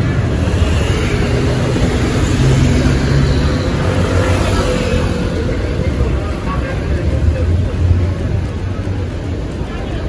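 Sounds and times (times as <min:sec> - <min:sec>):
cars and scooters driving past: 0:00.0 - 0:10.0.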